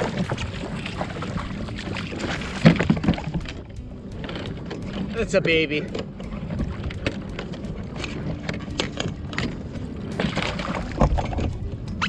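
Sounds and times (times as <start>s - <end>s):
gear clattering against a kayak: 0.0s - 12.0s
water lapping at a hull: 0.0s - 12.0s.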